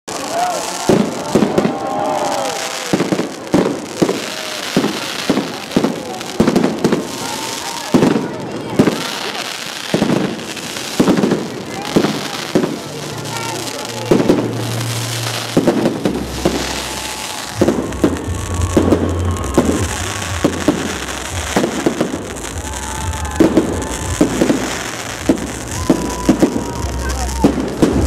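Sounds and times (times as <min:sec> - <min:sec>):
fireworks bursting with sharp bangs: 0:00.1 - 0:28.0.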